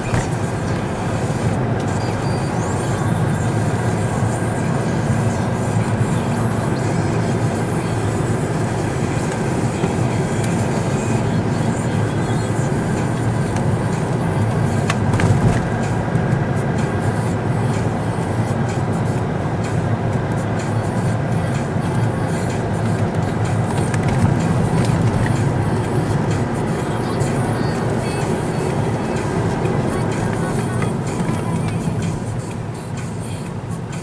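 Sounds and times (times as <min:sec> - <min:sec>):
car interior road rumble: 0:00.0 - 0:34.0.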